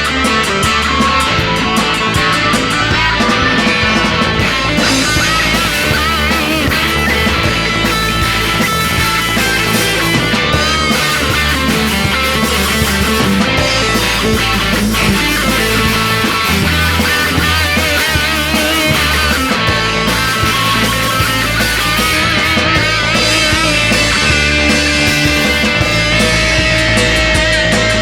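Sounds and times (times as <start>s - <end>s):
rock band playing: 0.0s - 28.0s
wavering guitar line: 0.0s - 28.0s.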